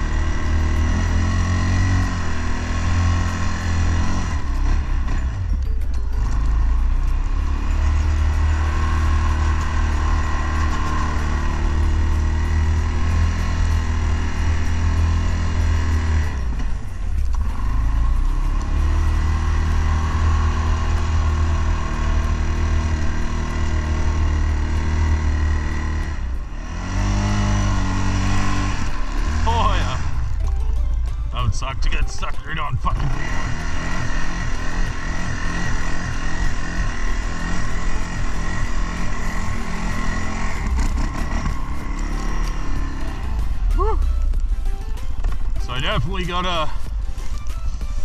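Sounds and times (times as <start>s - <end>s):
atv engine running under load: 0.0s - 48.0s.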